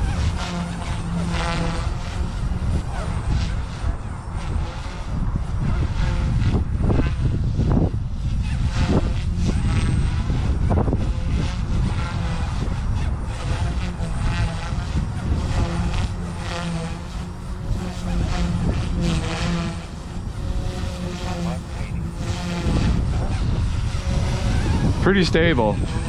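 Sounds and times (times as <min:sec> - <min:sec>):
rc helicopter motor whining: 0:00.0 - 0:26.0
wind rumble on microphone: 0:00.0 - 0:26.0.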